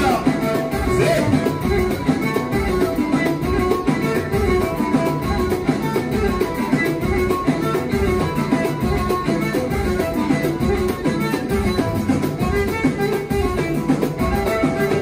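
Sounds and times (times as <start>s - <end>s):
driving drum beat: 0.0s - 15.0s
violin: 0.0s - 15.0s.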